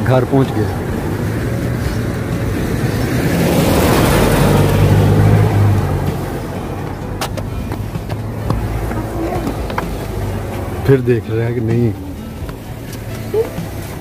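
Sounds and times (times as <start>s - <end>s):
vehicle engine hum: 0.0s - 14.0s
tyre noise: 0.8s - 14.0s.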